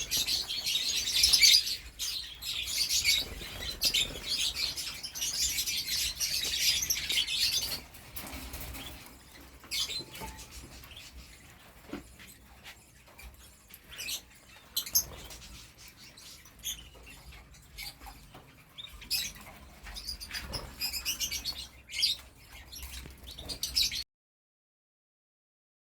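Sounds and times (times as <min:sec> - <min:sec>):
canary trilling song: 0:00.0 - 0:24.0.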